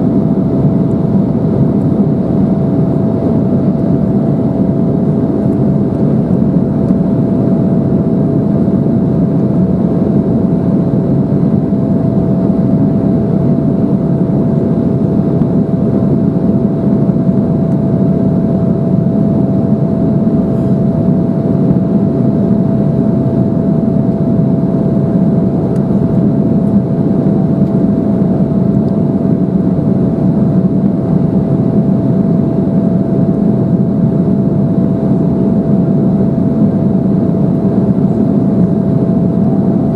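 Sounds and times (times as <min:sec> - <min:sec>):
airflow rush in cabin: 0:00.0 - 0:39.9
jet engines droning: 0:00.0 - 0:39.9
steady mid-range hum: 0:00.0 - 0:39.9.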